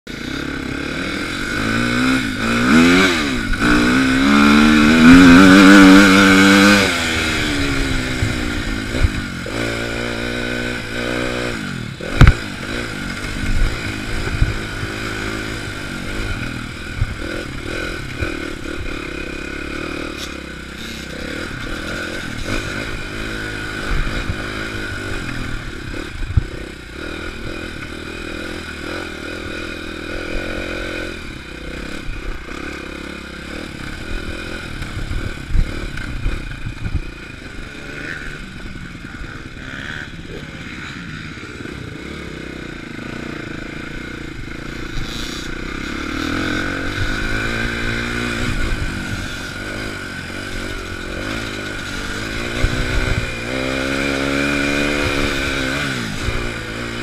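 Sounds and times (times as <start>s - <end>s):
dirt bike engine revving: 0.1s - 57.0s.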